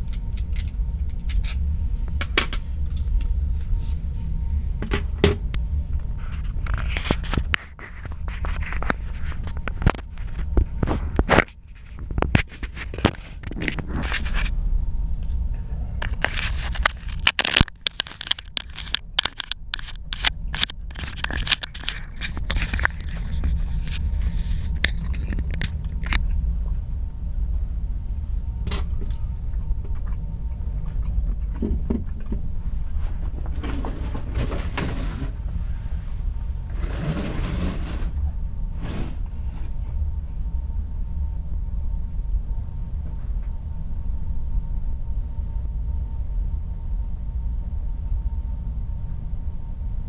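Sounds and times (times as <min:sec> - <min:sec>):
low ship rumble: 0:00.0 - 0:17.4, 0:18.2 - 0:50.0.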